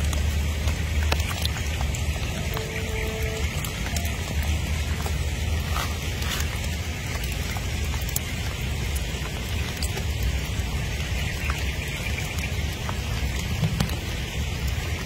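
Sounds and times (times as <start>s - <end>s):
rain falling on wet ground: 0.0s - 15.0s.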